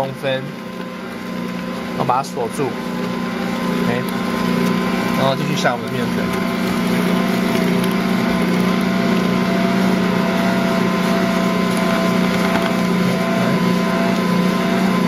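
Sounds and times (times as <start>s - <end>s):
dough churning in mixer bowl: 0.0s - 15.0s
stand mixer motor hum: 0.0s - 15.0s.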